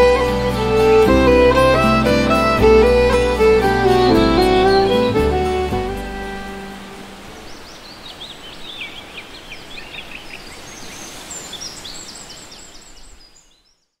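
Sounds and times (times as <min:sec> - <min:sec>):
steady background hiss: 0:00.0 - 0:13.9
birds chirping: 0:01.7 - 0:14.0.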